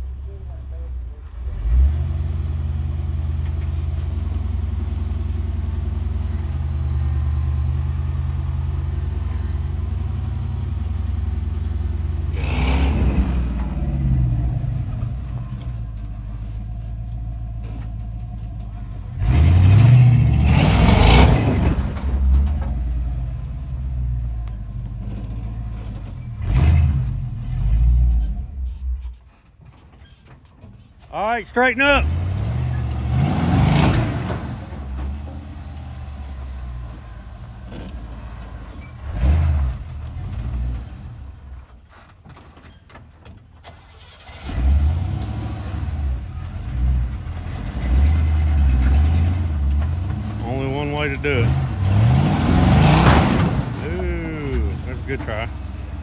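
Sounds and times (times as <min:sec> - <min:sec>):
truck engine revving: 0:01.3 - 0:28.5, 0:31.1 - 0:41.4, 0:44.1 - 0:56.0.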